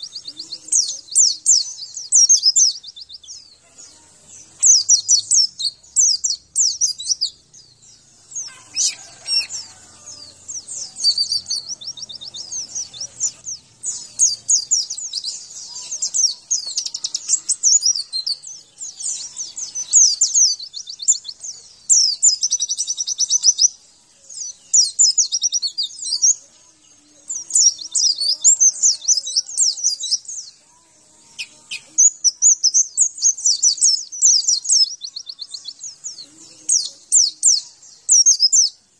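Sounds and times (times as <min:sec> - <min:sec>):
bird high-pitched twittering: 0:00.0 - 0:38.9.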